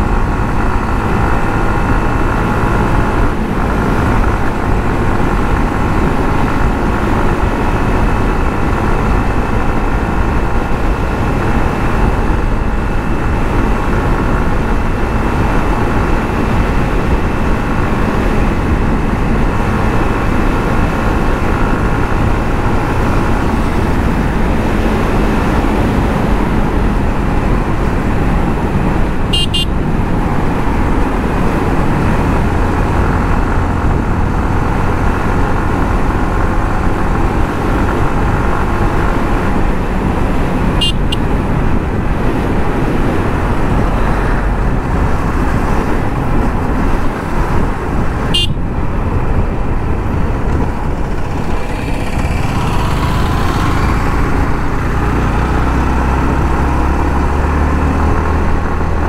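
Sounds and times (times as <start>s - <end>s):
motorcycle engine and exhaust: 0.0s - 59.0s.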